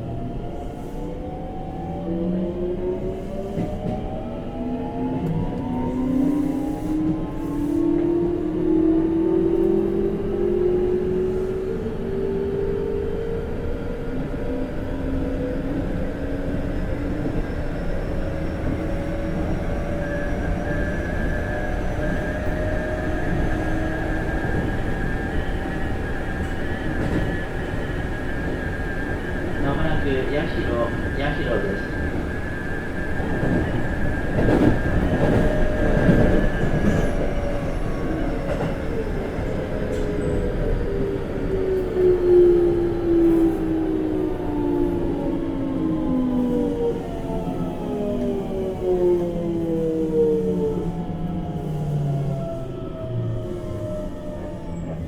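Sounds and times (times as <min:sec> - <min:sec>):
wheels rumbling on rail: 0:00.0 - 0:55.0
train inverter whine: 0:09.0 - 0:55.0.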